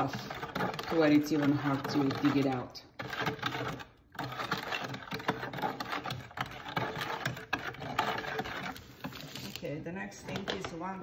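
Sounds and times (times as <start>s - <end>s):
spoon scraping plastic jar: 0.0s - 10.9s.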